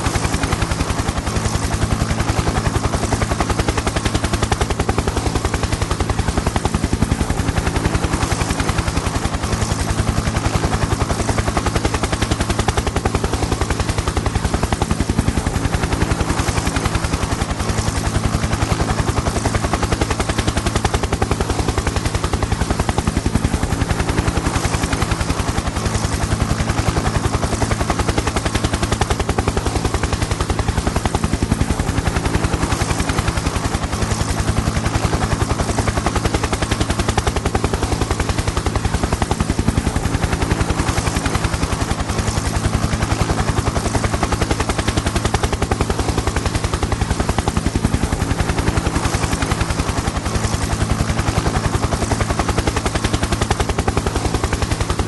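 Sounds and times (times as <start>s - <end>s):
helicopter engine drone: 0.0s - 55.0s
helicopter rotor blades chopping: 0.0s - 55.0s.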